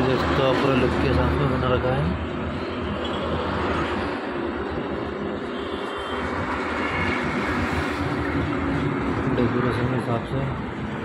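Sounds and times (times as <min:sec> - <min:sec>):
highway traffic rushing: 0:00.0 - 0:11.0.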